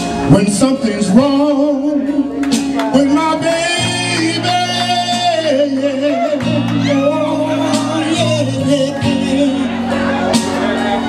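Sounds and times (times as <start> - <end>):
steady bass line: 0.0 - 11.0
person singing wordless notes: 0.1 - 11.0.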